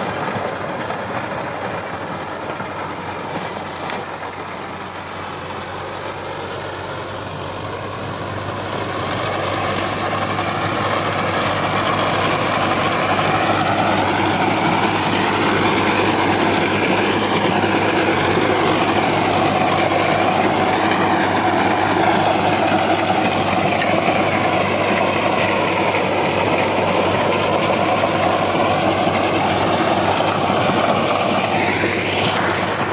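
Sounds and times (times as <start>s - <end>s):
rotavator blades churning soil: 0.0s - 32.9s
tractor diesel engine running: 0.0s - 32.9s.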